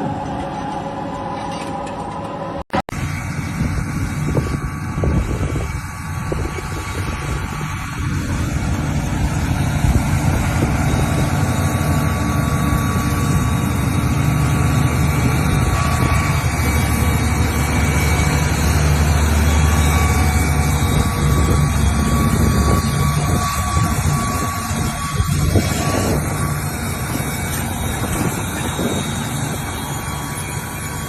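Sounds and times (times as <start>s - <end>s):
heavy engine running: 0.0s - 31.0s.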